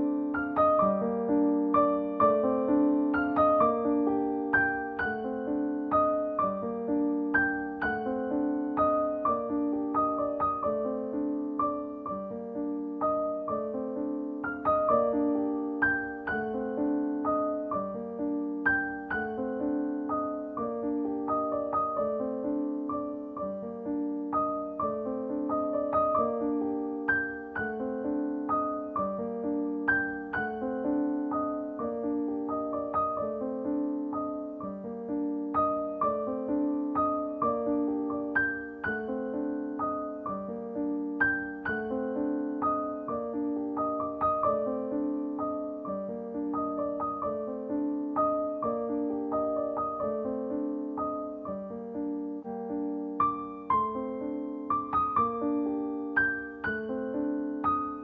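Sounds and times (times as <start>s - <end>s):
gentle piano tune: 0.0s - 58.0s.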